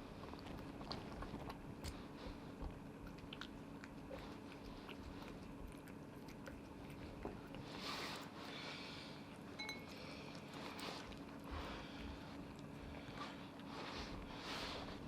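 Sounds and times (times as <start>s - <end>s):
cat chewing food: 0.0s - 15.0s
faint steady hum: 0.0s - 15.0s.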